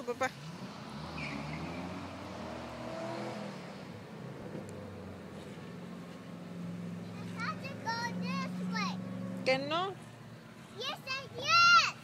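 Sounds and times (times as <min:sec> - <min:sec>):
distant racing car engines revving: 0:00.0 - 0:12.0.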